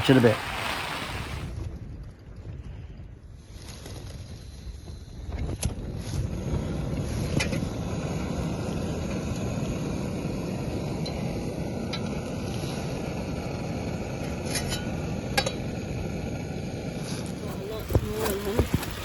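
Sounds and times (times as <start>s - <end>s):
wind and rain rushing: 0.0s - 19.0s.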